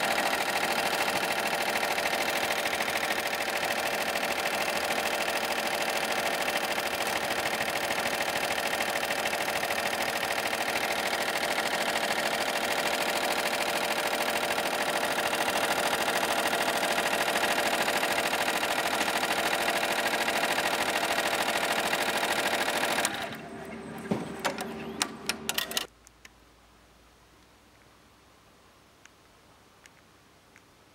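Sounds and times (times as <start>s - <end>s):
embroidery machine stitching: 0.0s - 25.9s.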